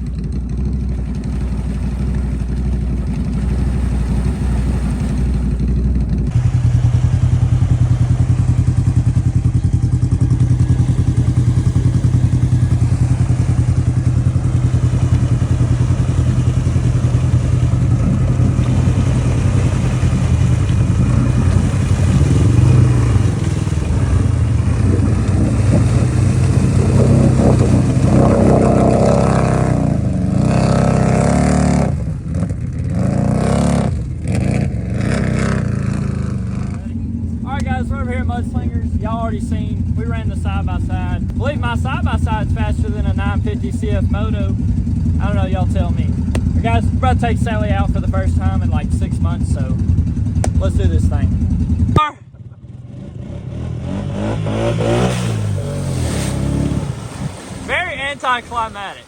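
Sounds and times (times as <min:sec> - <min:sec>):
atv engine revving under load: 0:00.0 - 0:58.1.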